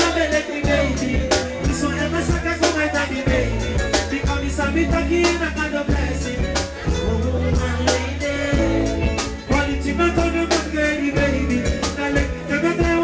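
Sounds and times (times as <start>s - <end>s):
heavy bass line: 0.0s - 13.0s
person singing: 0.0s - 13.0s
reggae band playing: 0.0s - 13.0s.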